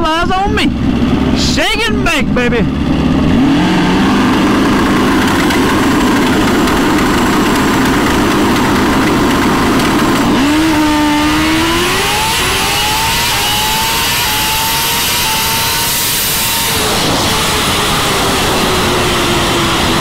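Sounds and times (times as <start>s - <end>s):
climbing engine tone: 0.0s - 20.0s
drag bike engine at full throttle: 0.0s - 20.0s.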